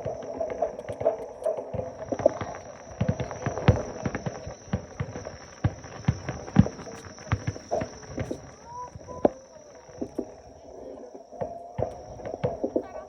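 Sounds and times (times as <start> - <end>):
fireworks bangs and crackles: 0.0 - 13.0
loud fireworks booms: 0.0 - 13.0.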